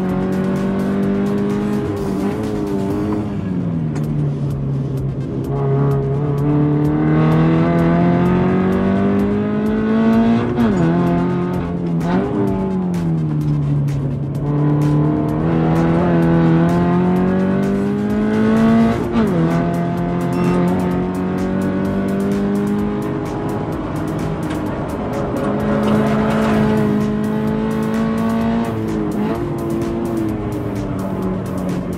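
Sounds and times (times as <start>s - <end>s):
car engine revving in cabin: 0.0s - 31.9s.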